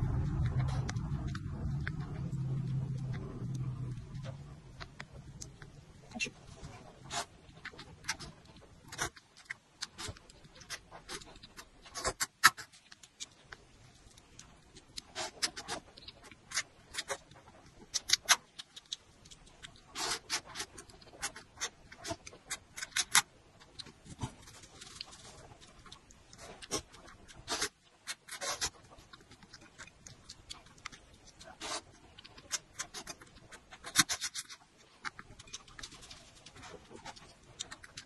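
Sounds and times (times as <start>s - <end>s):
slurping and chewing noodles: 6.4s - 38.0s.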